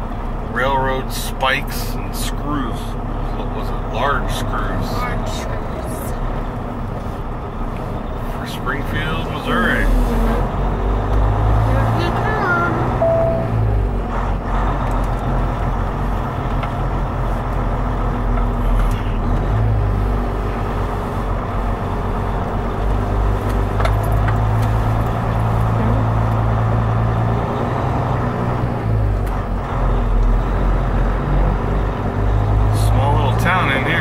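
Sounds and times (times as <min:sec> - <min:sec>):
truck diesel engine droning: 0:00.0 - 0:34.0.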